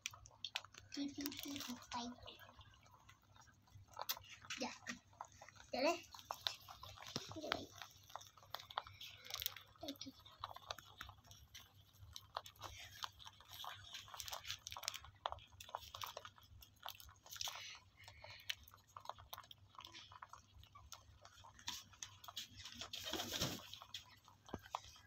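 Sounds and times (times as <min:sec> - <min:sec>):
rabbits chewing grass: 0:00.0 - 0:25.0.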